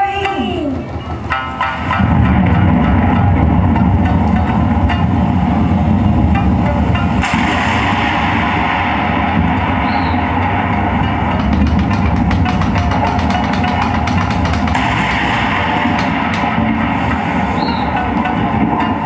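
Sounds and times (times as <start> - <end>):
plucked shamisen strings: 0.0 - 19.0
steady low rumble: 1.2 - 19.0.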